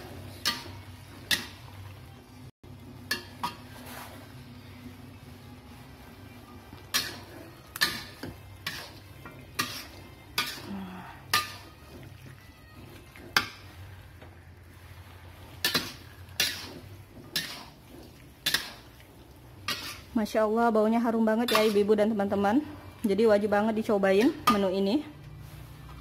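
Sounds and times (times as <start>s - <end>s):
metal spatula scraping a wok: 0.0s - 1.8s, 3.1s - 4.8s, 5.8s - 20.4s, 21.1s - 23.0s, 23.7s - 26.0s.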